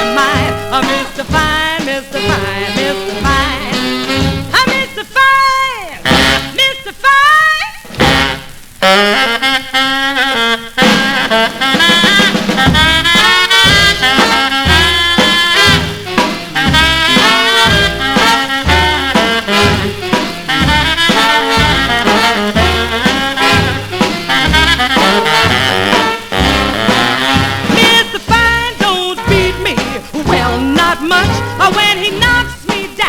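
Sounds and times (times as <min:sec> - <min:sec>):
walking bass: 0:00.0 - 0:06.6, 0:07.9 - 0:08.7, 0:10.8 - 0:33.0
rhythm and blues horn section: 0:00.0 - 0:33.0.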